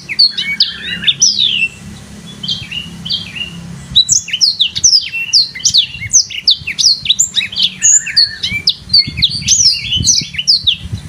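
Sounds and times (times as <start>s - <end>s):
songbird whistling: 0.0s - 1.8s, 2.4s - 11.0s.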